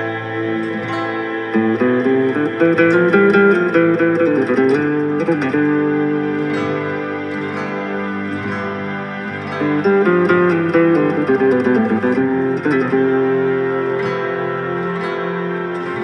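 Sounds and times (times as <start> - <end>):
slow guitar ballad: 0.0 - 16.0.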